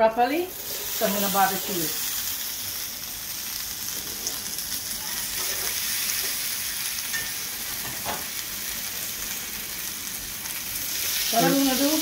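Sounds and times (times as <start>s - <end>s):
meat sizzling on a grill plate: 0.2s - 12.0s.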